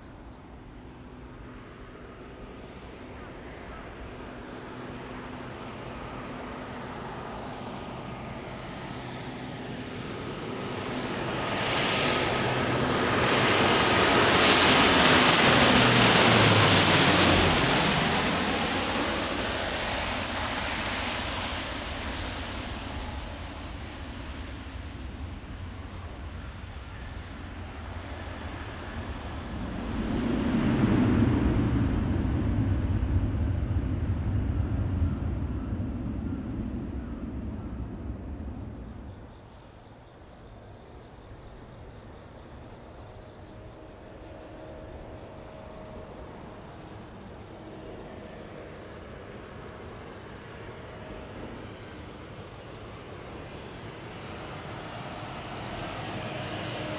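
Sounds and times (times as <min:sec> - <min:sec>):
high engine whine: 0:00.0 - 0:56.9
low aircraft rumble: 0:00.0 - 0:56.9
turboprop airplane flying overhead: 0:00.0 - 0:56.9.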